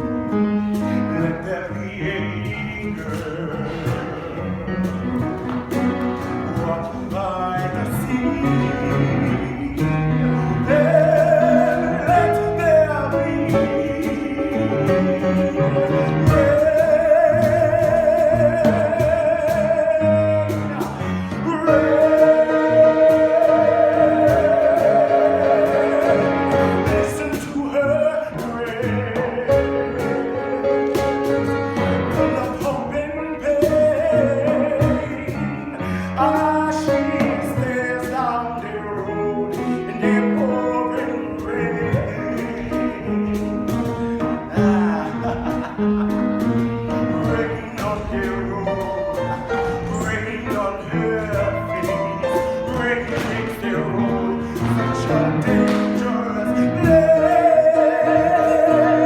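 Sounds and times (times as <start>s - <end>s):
instrumental accompaniment: 0.0s - 59.0s.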